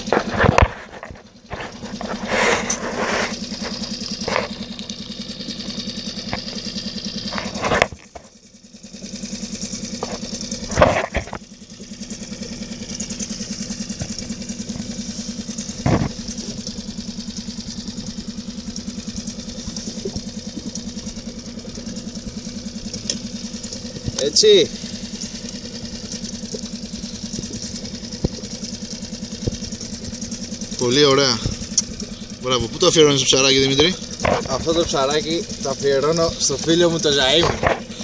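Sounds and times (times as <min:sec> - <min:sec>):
outboard motor idling: 0:00.0 - 0:38.0.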